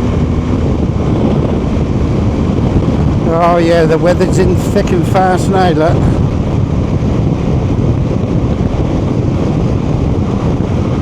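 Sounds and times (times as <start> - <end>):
motorcycle running: 0.0 - 11.0
road noise: 0.0 - 11.0
wind noise on microphone: 0.0 - 11.0.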